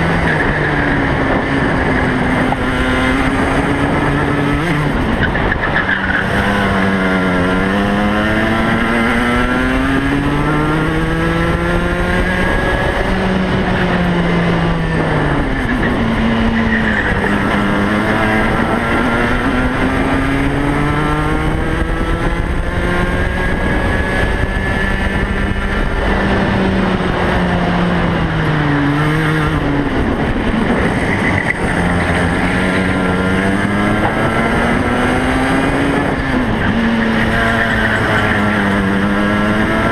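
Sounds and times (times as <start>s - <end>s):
kart two-stroke engine racing: 0.0s - 39.9s.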